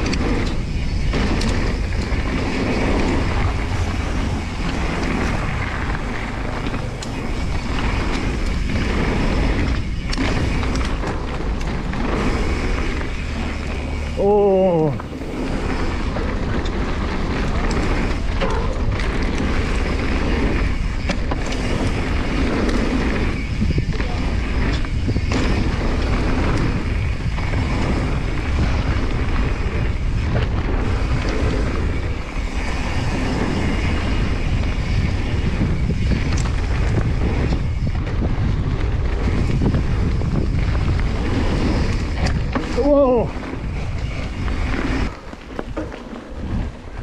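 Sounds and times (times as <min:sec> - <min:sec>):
bike rattling and knocking: 0:00.0 - 0:47.0
bike tyre noise: 0:00.0 - 0:47.0
wind rumble on microphone: 0:00.0 - 0:47.0.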